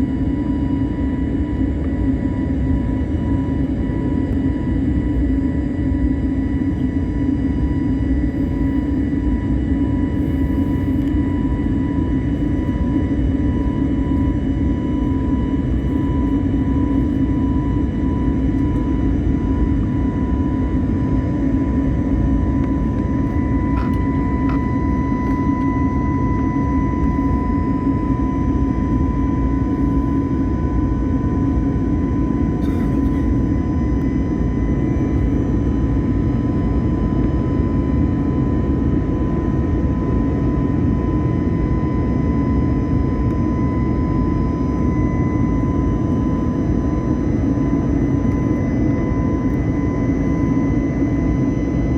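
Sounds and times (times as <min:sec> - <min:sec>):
airliner cabin roar: 0:00.0 - 0:51.9.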